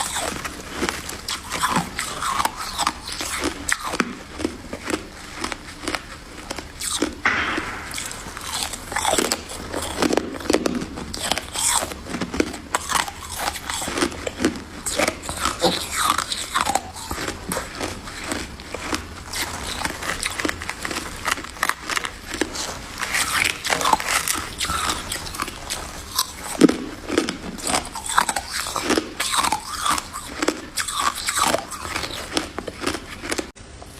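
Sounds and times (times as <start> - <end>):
person crunching ice: 0.0 - 33.6.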